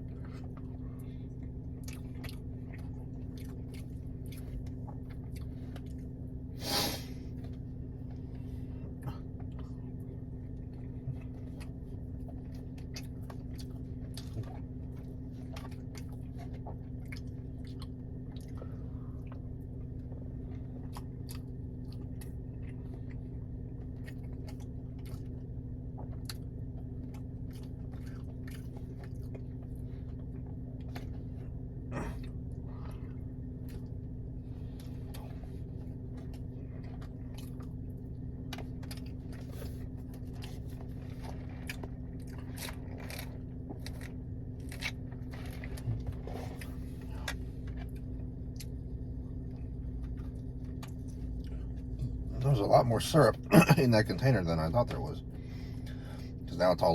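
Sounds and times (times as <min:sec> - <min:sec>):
person chewing and eating: 0:00.0 - 0:52.3
low hum: 0:00.0 - 0:56.9.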